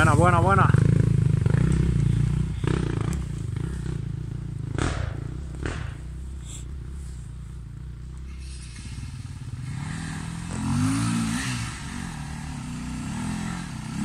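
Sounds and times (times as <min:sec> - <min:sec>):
motorcycle engine under load: 0:00.0 - 0:14.0.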